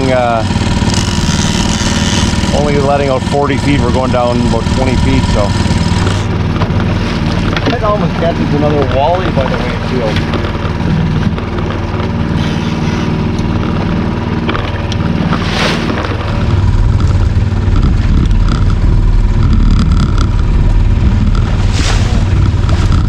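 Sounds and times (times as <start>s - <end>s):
outboard motor running: 0.0s - 23.0s.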